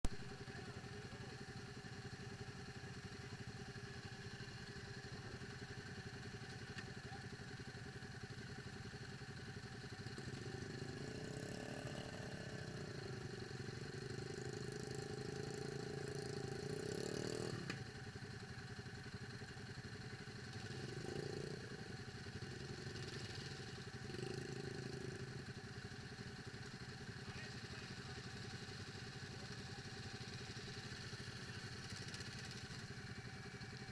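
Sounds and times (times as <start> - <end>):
atv engine idling and revving: 0.0 - 33.9.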